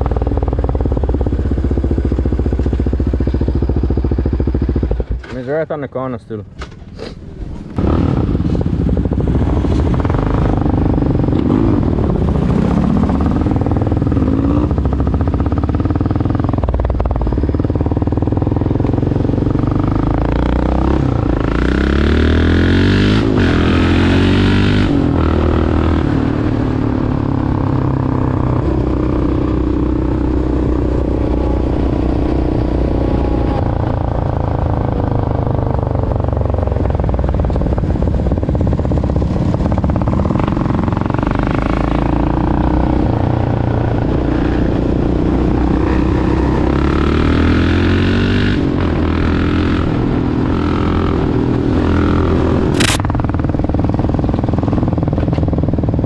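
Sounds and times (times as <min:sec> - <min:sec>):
quad engine revving: 0:07.8 - 0:16.8, 0:18.2 - 0:56.0.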